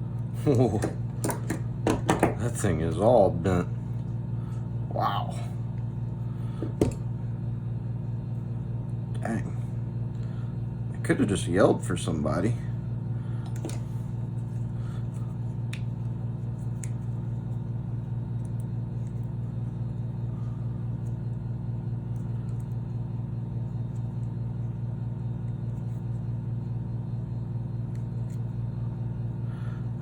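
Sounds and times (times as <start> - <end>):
machinery droning hum: 0.0 - 30.0.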